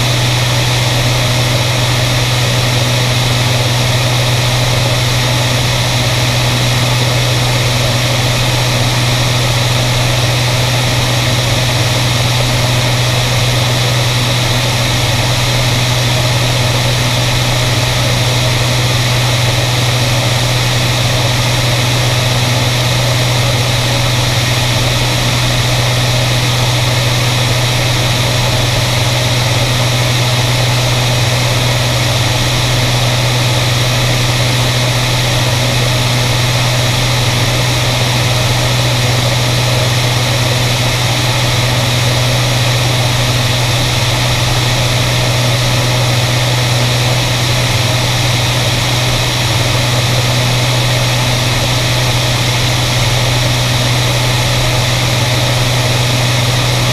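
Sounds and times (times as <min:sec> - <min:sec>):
propeller aircraft engines humming: 0:00.0 - 0:56.9.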